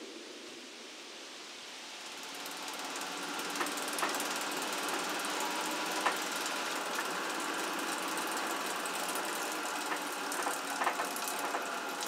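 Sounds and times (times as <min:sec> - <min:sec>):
gears and chain ticking and rattling: 0:02.1 - 0:12.0
gear and chain machinery humming: 0:02.3 - 0:12.0.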